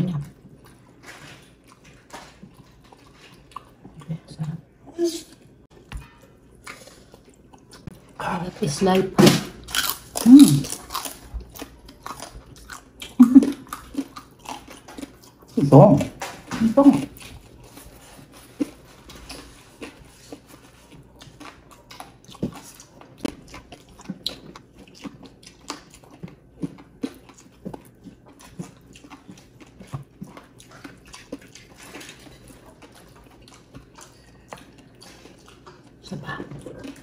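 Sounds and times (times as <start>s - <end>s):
people chewing food: 0.0s - 37.0s.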